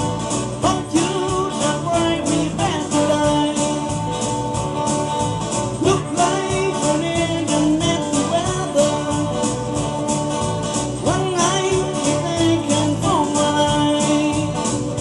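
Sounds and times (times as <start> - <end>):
person singing: 0.0 - 4.5, 5.2 - 9.9, 11.0 - 15.0
guitar: 0.0 - 15.0
steady drum beat: 0.0 - 15.0.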